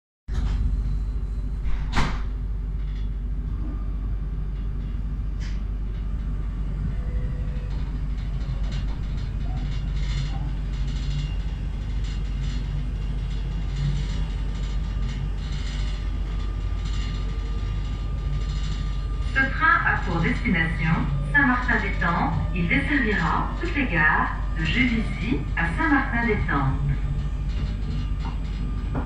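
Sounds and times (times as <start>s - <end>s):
train rumble: 0.3s - 29.0s.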